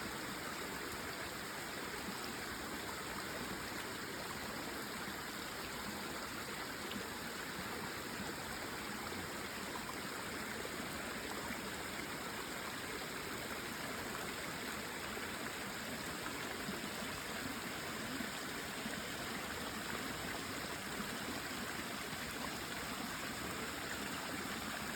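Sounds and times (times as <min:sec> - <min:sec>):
small waterfall splashing: 0:00.0 - 0:24.9.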